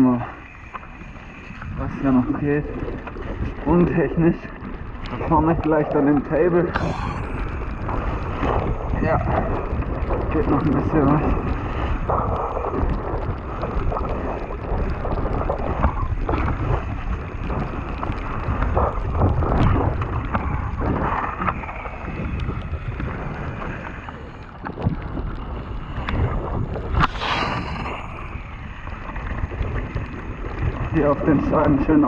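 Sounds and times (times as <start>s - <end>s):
bike tyres rolling on gravel: 0.0s - 32.0s
wind buffeting microphone: 0.0s - 32.0s
stones knocking and bike rattling: 1.6s - 32.0s.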